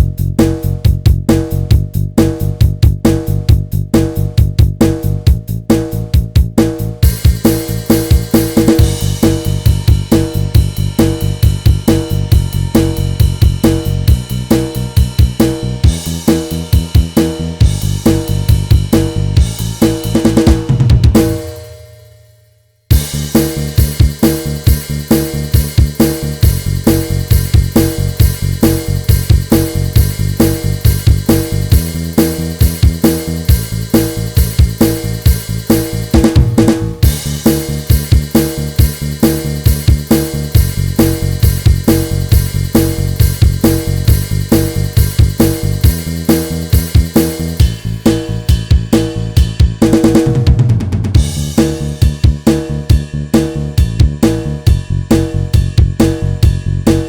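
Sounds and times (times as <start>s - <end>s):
low bass line: 0.0s - 21.6s, 22.9s - 57.0s
drum kit beat: 0.0s - 22.2s, 22.9s - 57.0s.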